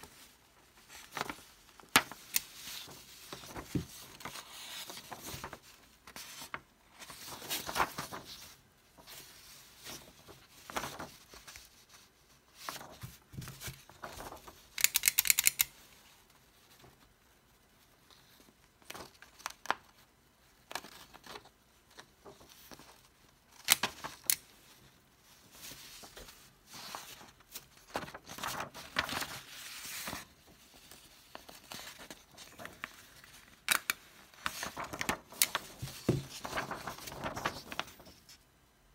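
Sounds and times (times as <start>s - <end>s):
paper rustling: 0.0s - 15.6s, 20.7s - 38.4s.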